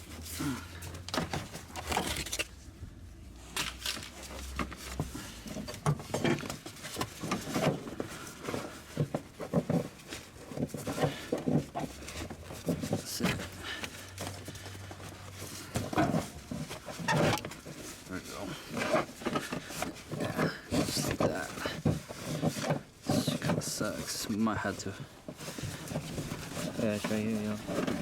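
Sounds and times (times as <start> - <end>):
parts clicking and rattling: 0.0 - 2.6, 3.5 - 28.0.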